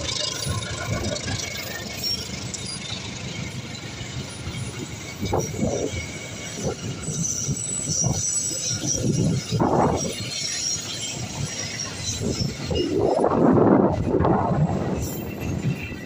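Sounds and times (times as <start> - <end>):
train wheels rumbling on rails: 0.0 - 16.0
wheels clacking over rail joints: 0.0 - 16.0.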